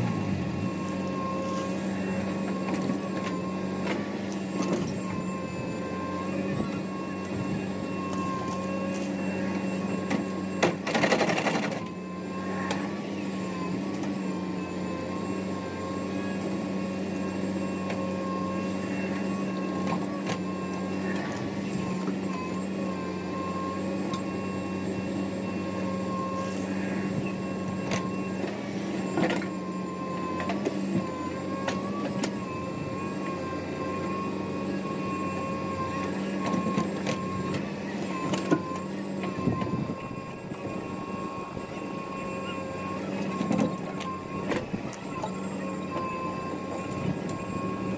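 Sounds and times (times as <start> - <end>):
diesel machinery humming: 0.0 - 47.9.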